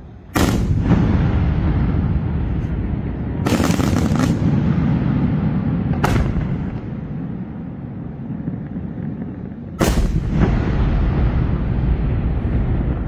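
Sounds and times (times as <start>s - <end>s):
low rumble: 0.0s - 13.0s
rapid firework reports: 0.1s - 13.0s
firework bang: 0.3s - 7.4s, 8.2s - 13.0s.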